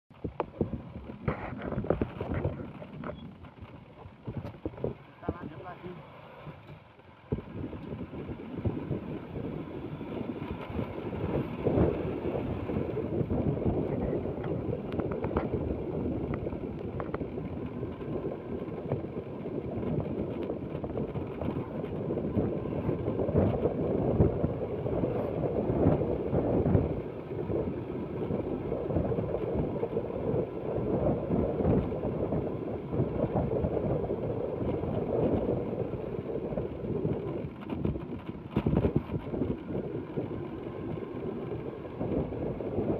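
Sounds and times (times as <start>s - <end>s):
scooter engine running: 0.1s - 42.9s
wind buffeting microphone: 0.1s - 42.9s.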